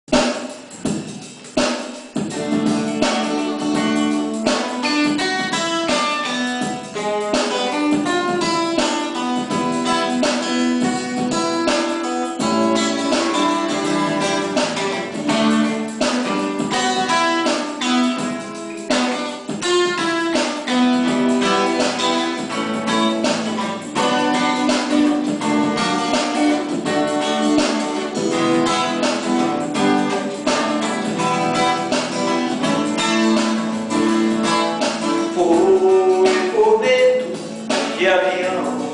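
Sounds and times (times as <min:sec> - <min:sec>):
acoustic guitar strummed and picked: 0:00.1 - 0:38.9.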